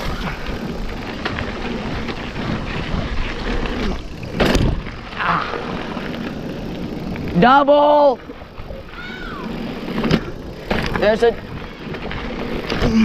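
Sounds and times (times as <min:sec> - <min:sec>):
bike tyres on dirt trail: 0:00.0 - 0:13.0.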